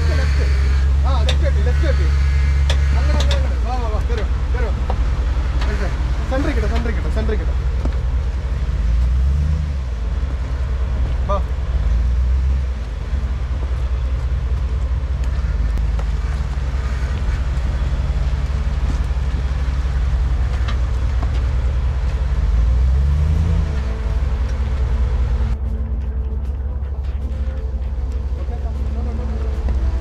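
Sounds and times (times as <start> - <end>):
pickup engine running under load: 0.0 - 30.0.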